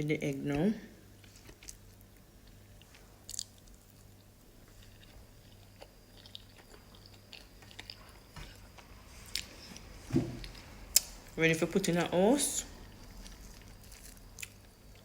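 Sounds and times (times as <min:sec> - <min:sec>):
person chewing food: 0:01.2 - 0:11.2, 0:12.8 - 0:15.0.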